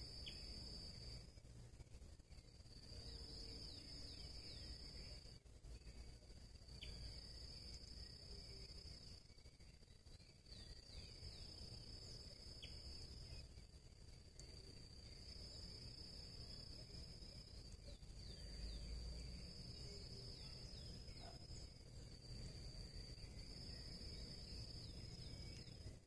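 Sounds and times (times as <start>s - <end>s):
insect trilling: 0.0s - 1.4s, 2.2s - 25.9s.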